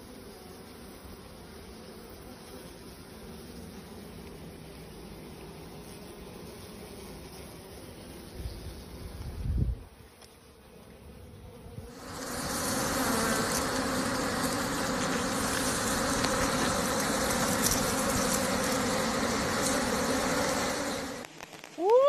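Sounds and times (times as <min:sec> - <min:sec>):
bees buzzing: 0:00.0 - 0:21.8.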